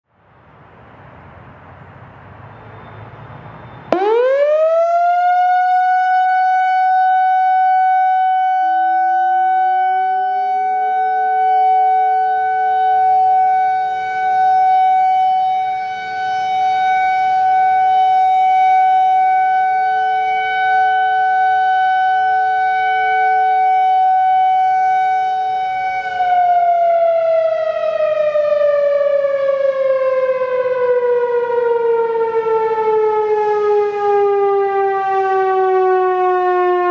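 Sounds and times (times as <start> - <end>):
outdoor warning siren steady tone: 2.3 - 36.9.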